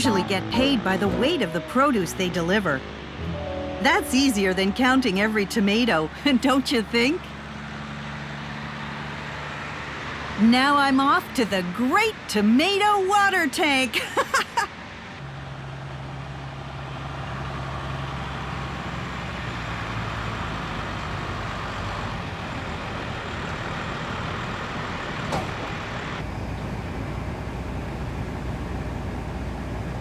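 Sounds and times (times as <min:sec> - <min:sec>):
truck diesel engine running: 0:00.0 - 0:13.4, 0:15.4 - 0:30.0.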